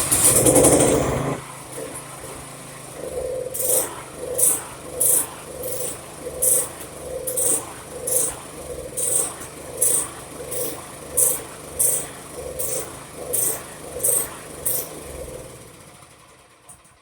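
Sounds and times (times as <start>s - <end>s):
small engine turning over: 0.0s - 17.0s.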